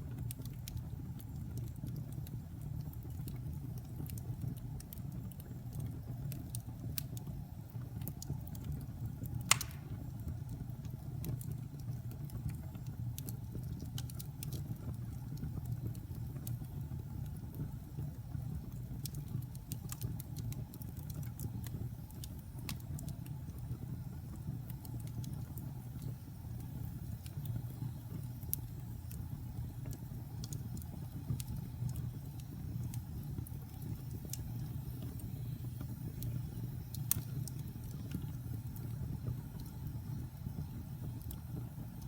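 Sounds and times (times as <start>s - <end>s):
burning wood crackling and popping: 0.0s - 42.0s
low rumble of flames: 0.0s - 42.0s.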